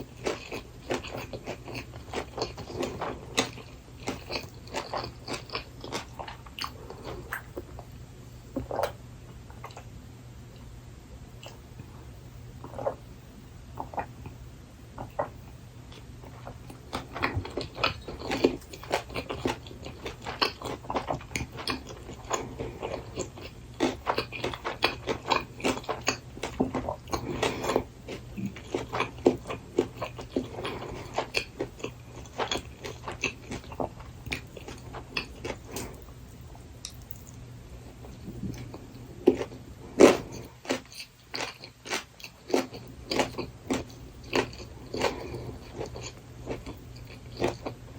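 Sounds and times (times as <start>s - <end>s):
wet chewing with crunches: 0.0s - 9.9s, 15.0s - 47.9s.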